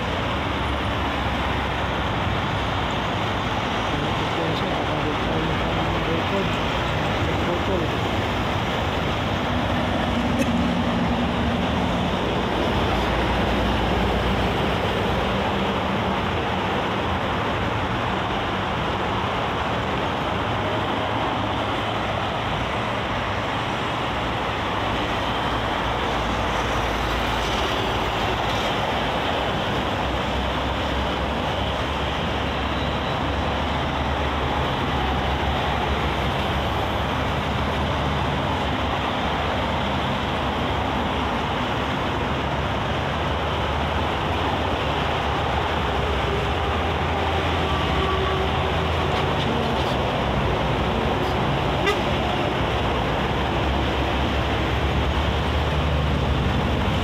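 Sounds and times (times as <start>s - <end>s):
expressway traffic passing: 0.0s - 57.0s.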